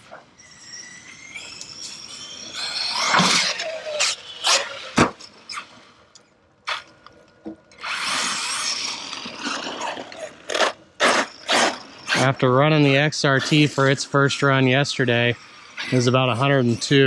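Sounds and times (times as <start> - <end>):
electric motor whining: 0.0 - 5.7, 7.7 - 17.0.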